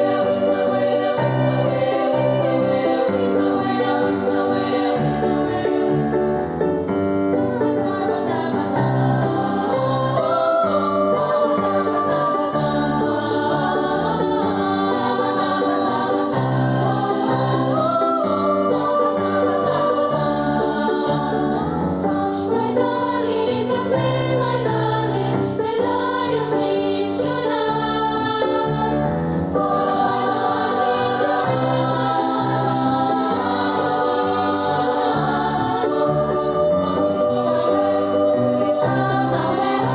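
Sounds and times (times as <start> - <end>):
voices singing together: 0.0 - 39.9.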